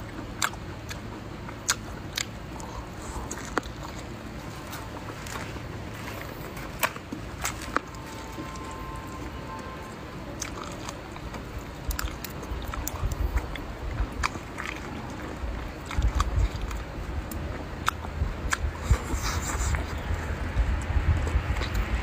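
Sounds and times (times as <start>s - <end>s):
wet chewing and crunching: 0.0s - 22.0s
low microphone rumble: 1.3s - 22.0s.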